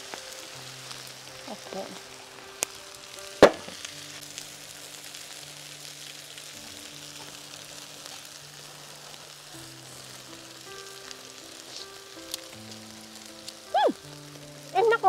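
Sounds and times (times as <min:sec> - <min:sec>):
noodles sizzling in a wok: 0:00.0 - 0:15.0
soft background music: 0:00.0 - 0:15.0.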